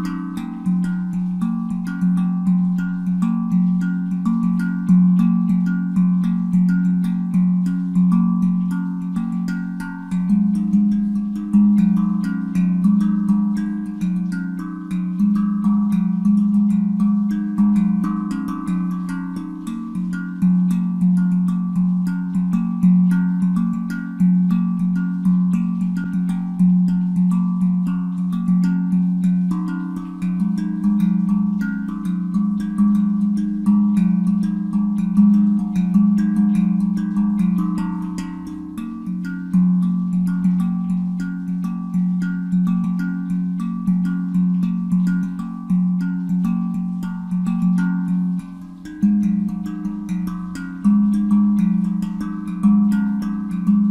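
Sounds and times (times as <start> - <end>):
handpan notes: 0.0 - 53.9.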